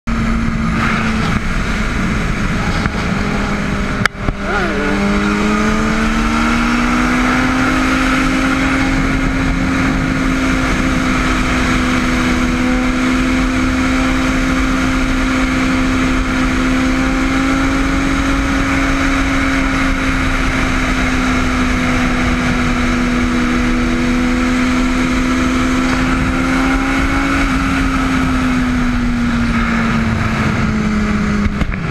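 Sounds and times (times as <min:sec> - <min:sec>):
motorcycle engine at high revs: 0:00.1 - 0:31.9
wind noise: 0:00.1 - 0:31.9.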